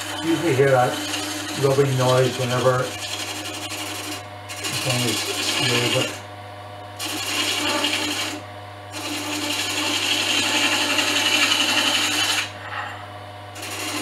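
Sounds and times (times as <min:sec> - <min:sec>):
chisel scraping spinning wood: 0:00.0 - 0:06.3, 0:07.0 - 0:14.0
lathe motor hum: 0:00.0 - 0:06.3, 0:07.0 - 0:14.0.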